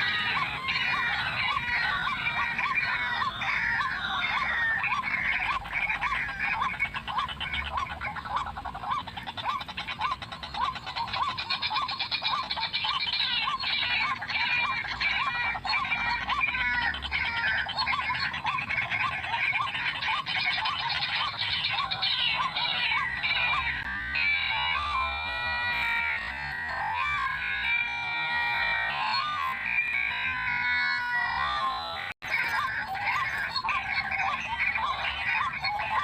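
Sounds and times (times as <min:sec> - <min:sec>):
chatter of overlapping bird calls: 0:00.0 - 0:36.0
waterhen calling short rising notes: 0:00.0 - 0:36.0.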